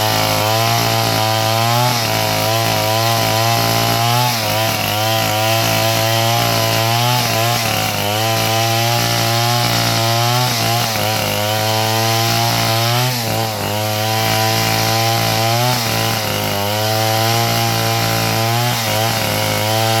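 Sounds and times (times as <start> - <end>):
sawmill engine cutting wood: 0.0 - 20.0.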